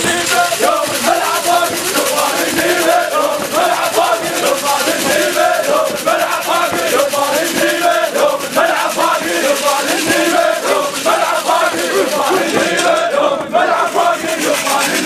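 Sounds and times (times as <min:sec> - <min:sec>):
crowd of men chanting and shouting: 0:00.0 - 0:15.0.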